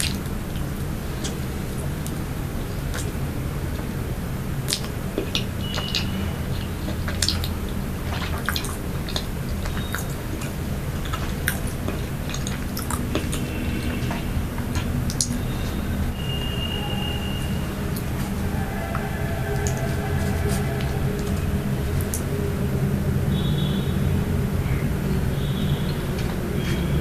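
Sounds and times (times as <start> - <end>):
chewing with wet mouth clicks: 0.0 - 22.5
steady low hum: 0.0 - 27.0.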